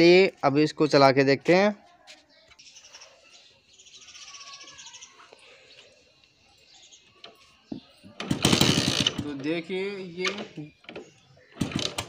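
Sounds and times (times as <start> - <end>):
birds chirping faintly: 0.0 - 8.4, 9.2 - 12.0.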